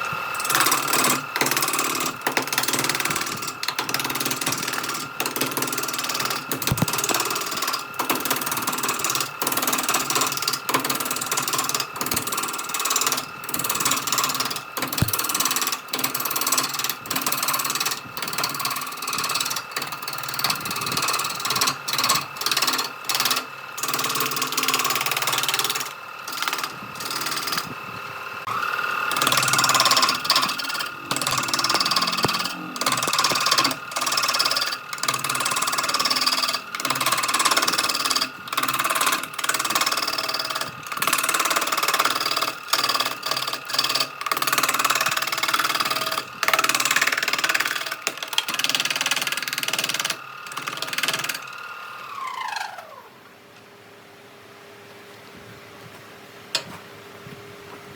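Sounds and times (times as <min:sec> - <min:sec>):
power tool cutting wood: 0:00.0 - 0:53.2.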